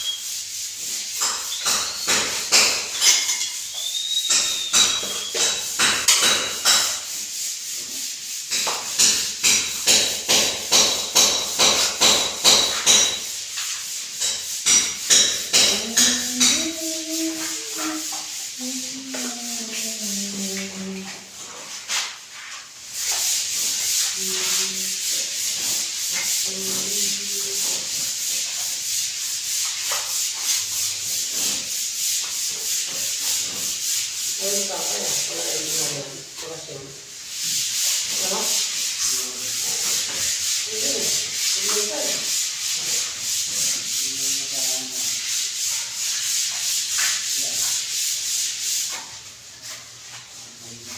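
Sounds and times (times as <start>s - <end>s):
abrasive sanding strokes: 0.0s - 50.9s.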